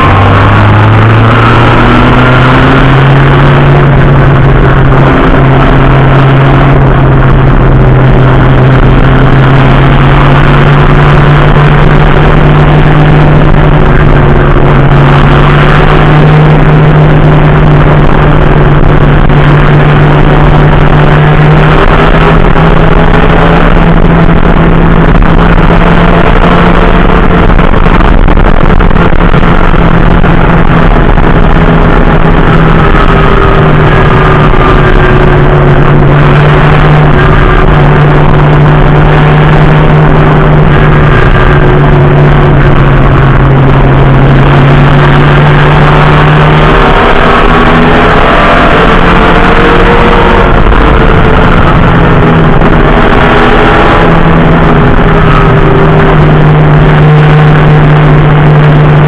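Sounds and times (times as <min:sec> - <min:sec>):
racing car engine: 0:00.0 - 0:59.0
wind and road noise: 0:00.0 - 0:59.0.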